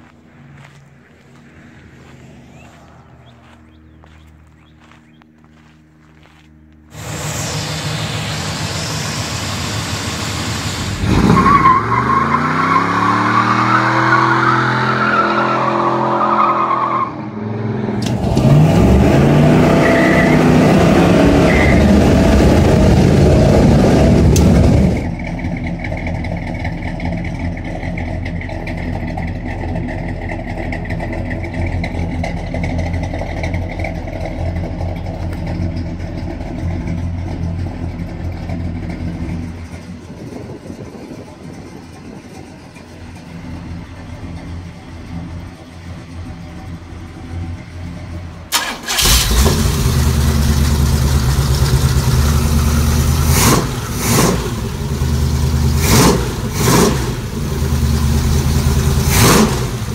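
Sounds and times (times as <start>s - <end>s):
car engine revving: 0.3s - 59.9s.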